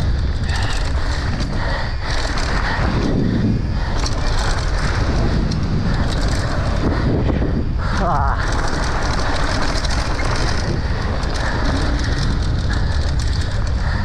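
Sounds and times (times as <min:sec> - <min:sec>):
bike knocks and rattles: 0:00.0 - 0:14.0
tyres rolling on rough dirt: 0:00.0 - 0:14.0
wind rushing over microphone: 0:00.0 - 0:14.0.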